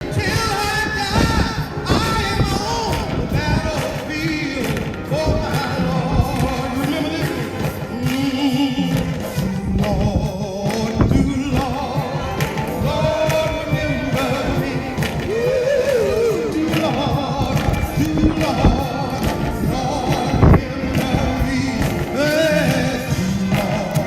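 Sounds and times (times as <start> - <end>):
group singing a hymn: 0.0 - 24.0.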